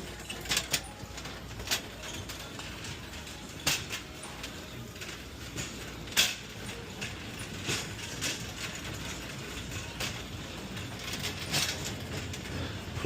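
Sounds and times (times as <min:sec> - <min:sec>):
metal carts rattling and clanking: 0:00.0 - 0:13.0.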